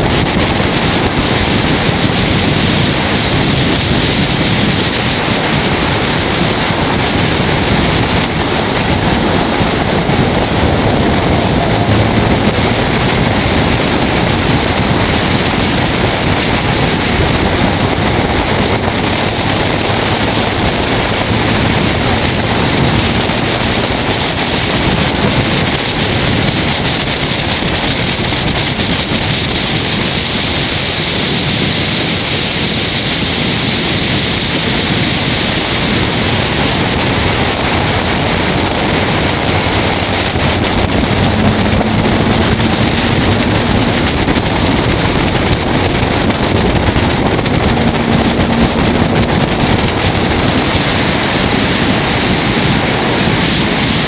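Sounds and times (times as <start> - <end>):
racing car engine running: 0.0 - 54.0
wind rush on microphone: 0.0 - 54.0.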